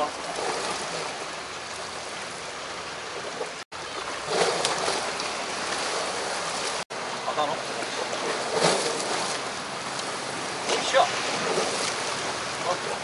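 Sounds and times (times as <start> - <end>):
water washing against rocks: 0.0 - 13.0.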